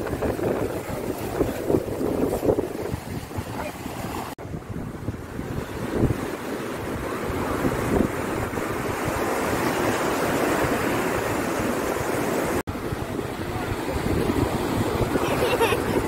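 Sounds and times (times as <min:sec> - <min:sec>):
sea surf: 0:00.0 - 0:16.0
wind buffeting microphone: 0:00.0 - 0:16.0.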